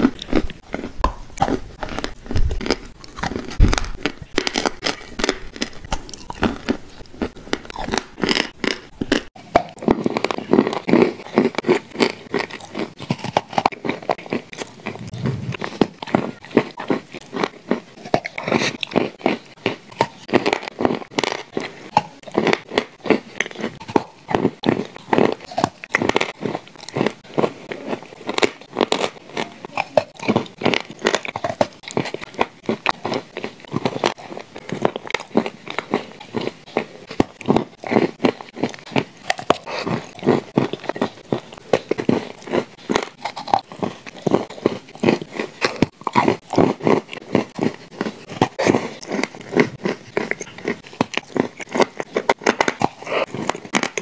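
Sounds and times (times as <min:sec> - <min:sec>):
cookies crunching: 0:00.0 - 0:54.0.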